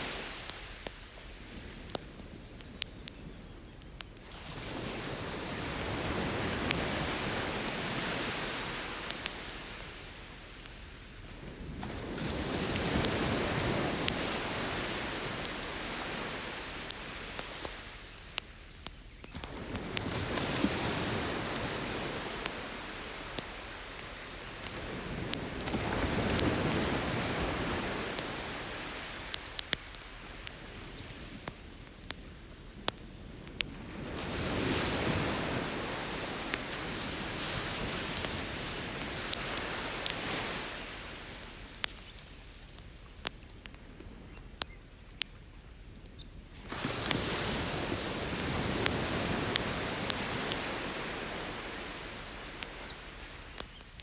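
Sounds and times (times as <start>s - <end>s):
ocean waves washing ashore: 0.0s - 3.4s, 4.2s - 42.6s, 46.6s - 54.0s
campfire crackling and popping: 0.0s - 54.0s.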